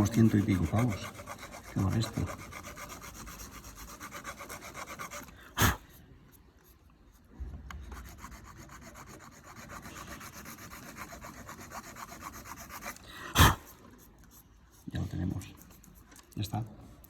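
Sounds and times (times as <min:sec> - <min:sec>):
file rasping: 0:00.0 - 0:06.0, 0:07.8 - 0:16.0.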